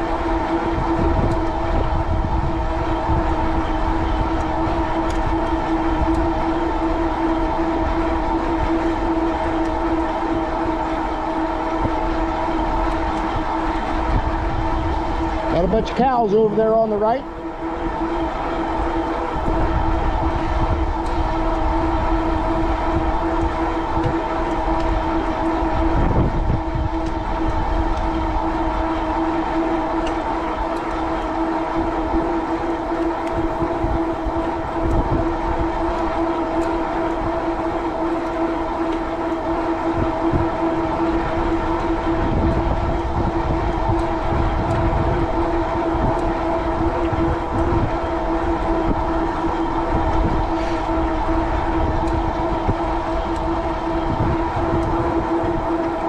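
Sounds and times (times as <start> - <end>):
electric bike motor whine: 0.0 - 56.0
wind buffeting microphone: 0.0 - 56.0.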